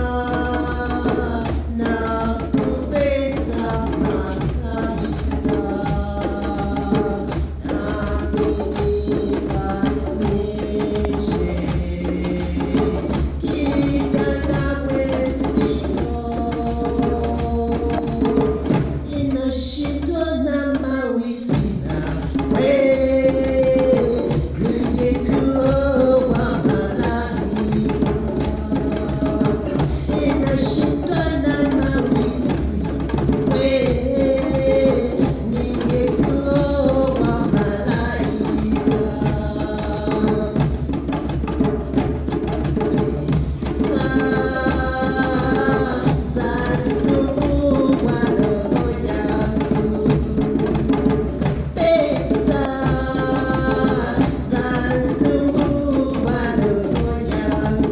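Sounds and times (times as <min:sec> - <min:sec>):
drums keeping a steady beat: 0:00.0 - 0:57.9.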